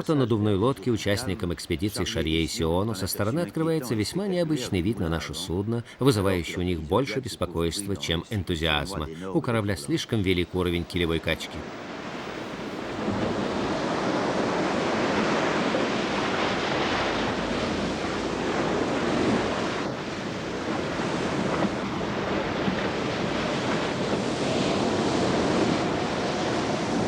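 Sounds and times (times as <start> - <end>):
waves surging and breaking: 0.0 - 27.0
wind: 0.0 - 27.0.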